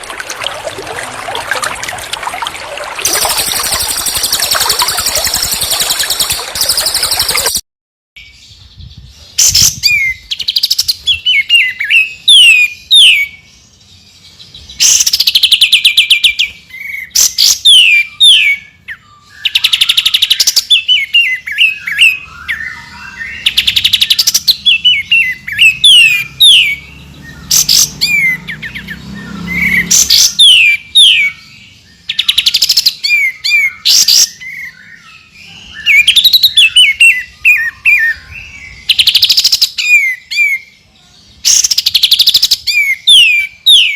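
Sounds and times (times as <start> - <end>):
songbird singing rapid bursts: 0.0 - 7.6, 8.2 - 43.9.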